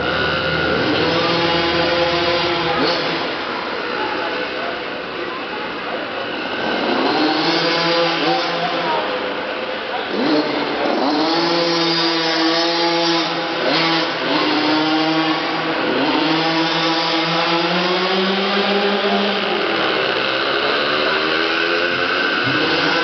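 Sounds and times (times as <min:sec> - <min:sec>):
motorcycle engines revving hard: 0:00.0 - 0:23.0.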